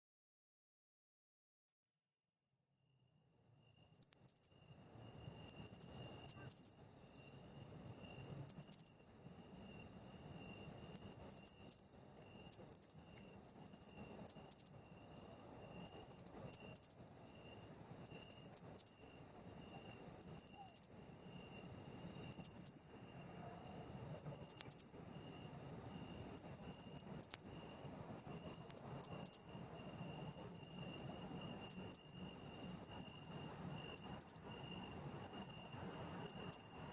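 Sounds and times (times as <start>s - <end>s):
cricket chirping: 3.1s - 36.9s.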